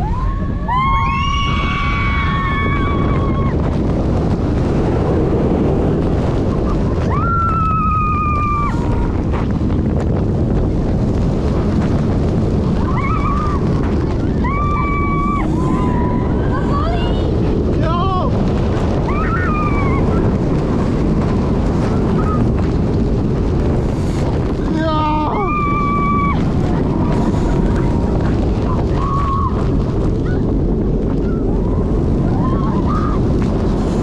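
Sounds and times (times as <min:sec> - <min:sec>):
riders screaming: 0:00.0 - 0:09.7, 0:11.9 - 0:23.3, 0:24.2 - 0:34.0
wind buffeting microphone: 0:00.0 - 0:34.0.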